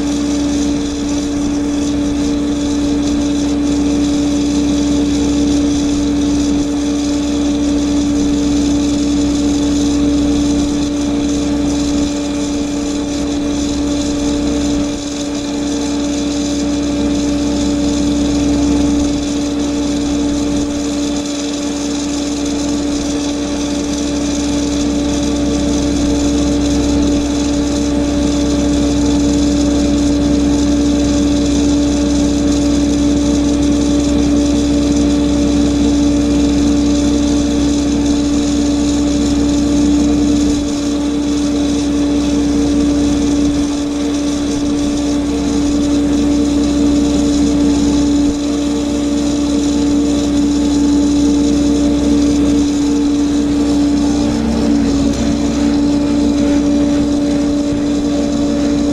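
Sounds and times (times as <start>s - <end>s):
auger machine droning: 0.0s - 58.9s.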